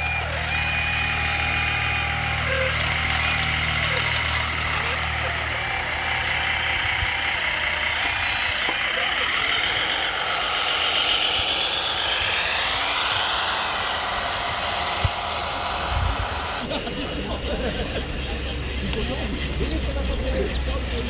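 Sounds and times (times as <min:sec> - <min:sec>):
toy truck motors whining: 0:00.0 - 0:21.0.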